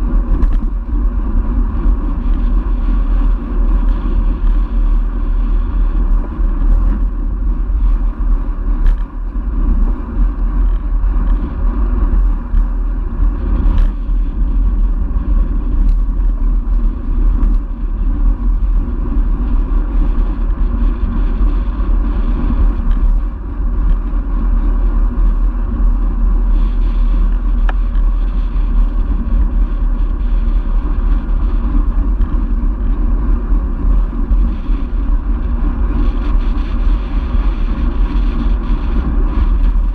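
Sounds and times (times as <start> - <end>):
tyre noise on asphalt: 0.0 - 39.9
wind rumble on microphone: 0.0 - 39.9.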